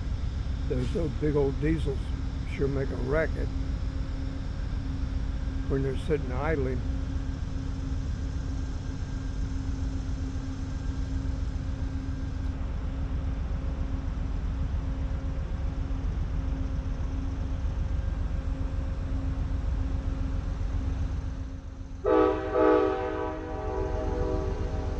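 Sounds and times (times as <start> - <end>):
diesel locomotive idling: 0.0 - 24.9.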